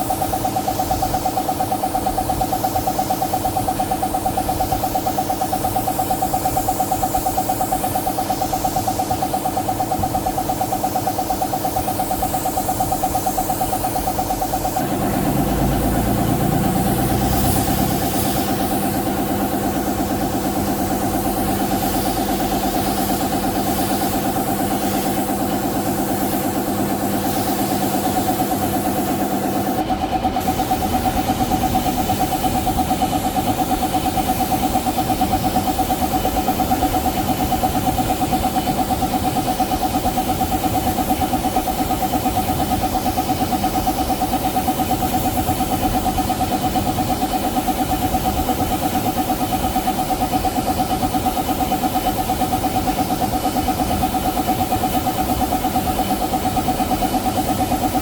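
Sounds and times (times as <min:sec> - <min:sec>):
motor running with fast pulse: 0:00.0 - 0:58.0.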